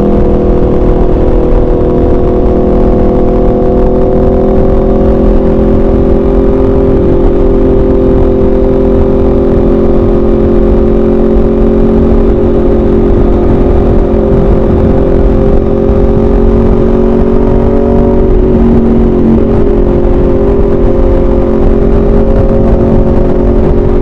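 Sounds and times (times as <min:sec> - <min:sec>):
motorcycle engine cruising: 0:00.0 - 0:24.0
wind rumbling on microphone: 0:00.0 - 0:24.0.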